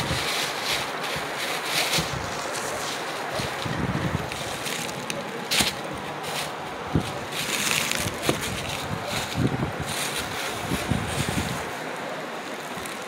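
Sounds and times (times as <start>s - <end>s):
cloth rustling over microphone: 0.0s - 11.8s.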